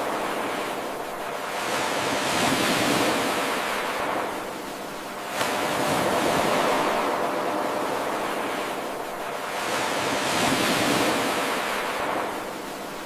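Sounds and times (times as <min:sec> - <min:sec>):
ocean waves on shore: 0:00.0 - 0:13.0.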